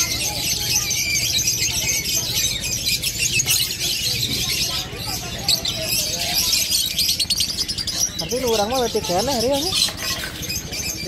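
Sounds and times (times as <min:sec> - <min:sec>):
caged birds chirping and chattering: 0:00.0 - 0:11.0.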